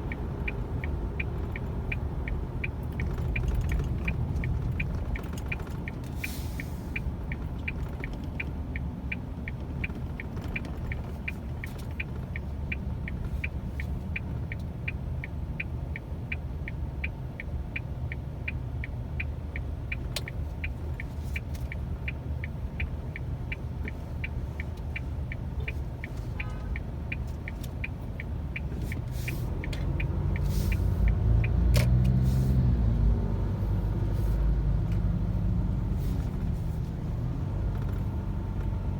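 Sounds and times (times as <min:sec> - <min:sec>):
car engine and road rumble: 0:00.0 - 0:38.9
turn signal ticking: 0:00.0 - 0:38.9.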